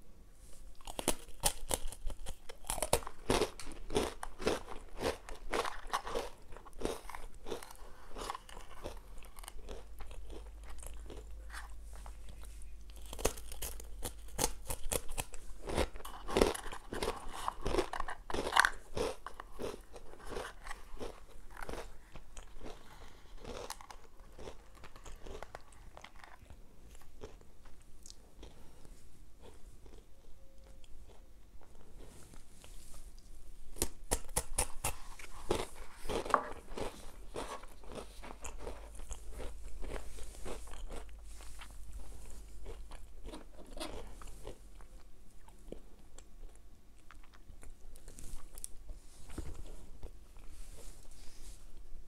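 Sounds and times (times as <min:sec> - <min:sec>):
crunching and chewing breadsticks: 0:00.6 - 0:51.8.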